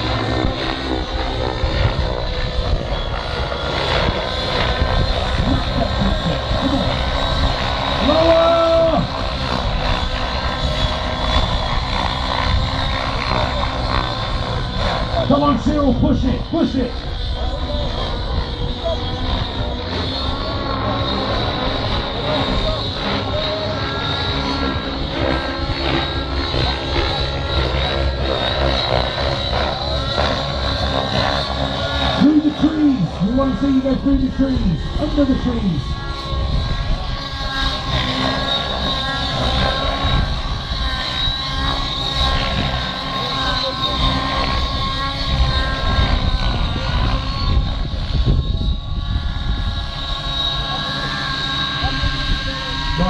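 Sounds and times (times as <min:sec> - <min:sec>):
helicopter rotor noise: 0:00.0 - 0:53.0
model helicopter engines whining: 0:00.0 - 0:53.0.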